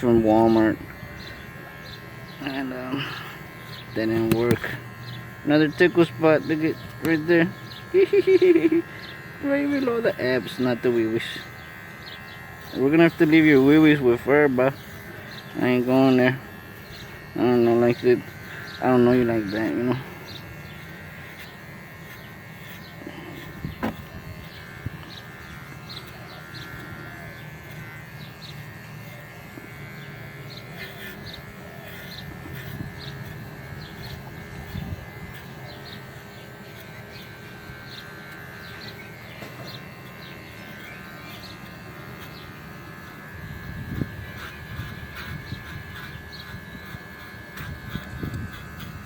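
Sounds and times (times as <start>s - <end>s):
electric hair clippers humming: 0.0s - 49.0s.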